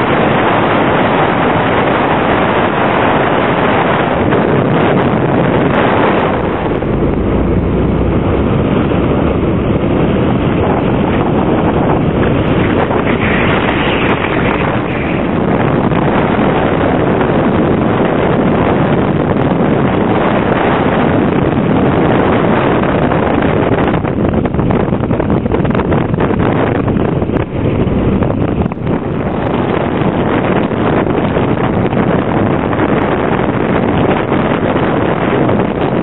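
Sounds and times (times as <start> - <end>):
road and engine noise: 0.0 - 36.0
wind rushing over microphone: 0.0 - 36.0.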